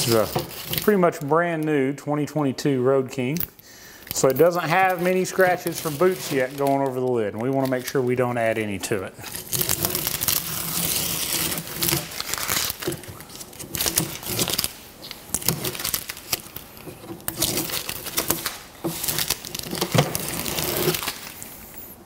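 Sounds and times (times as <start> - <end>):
masking tape ripping and crinkling: 0.0 - 1.6, 4.1 - 22.0.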